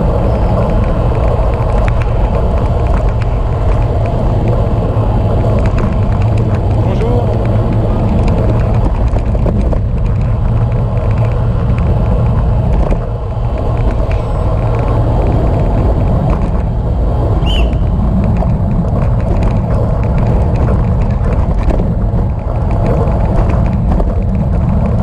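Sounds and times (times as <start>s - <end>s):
tyre noise on road: 0.0s - 25.0s
wind buffeting microphone: 0.0s - 25.0s.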